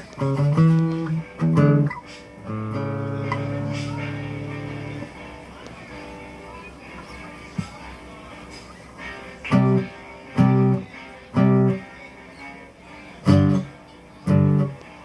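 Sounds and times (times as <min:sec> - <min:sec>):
guitar chord stabs: 0:00.0 - 0:12.5, 0:13.2 - 0:15.0.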